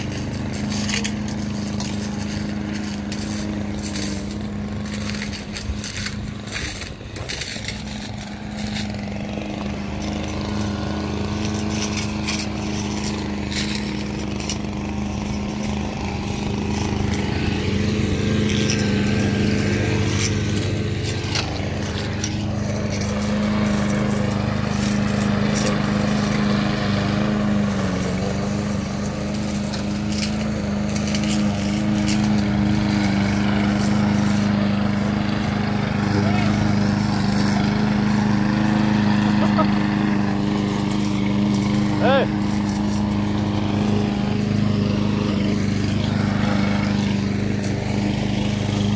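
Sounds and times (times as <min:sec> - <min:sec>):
brush cutters running: 0:00.0 - 0:48.9
lawn mower engine: 0:00.0 - 0:48.9.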